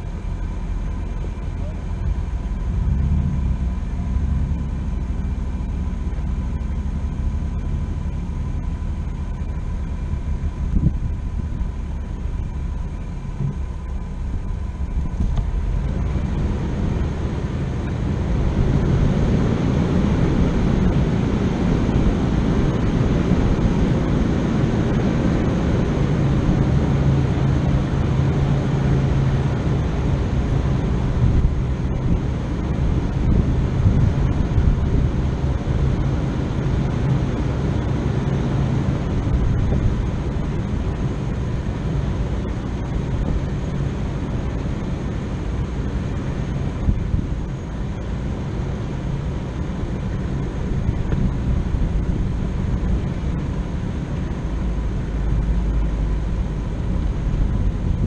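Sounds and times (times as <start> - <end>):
off-road vehicle engine rumbling: 0.0 - 58.0.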